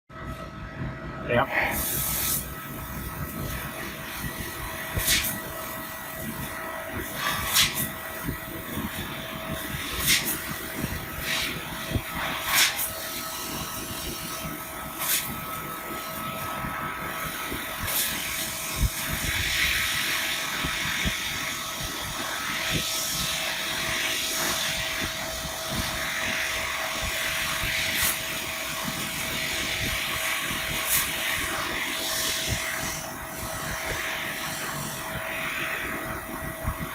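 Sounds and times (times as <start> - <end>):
laser cutter hissing: 1.3 - 36.9.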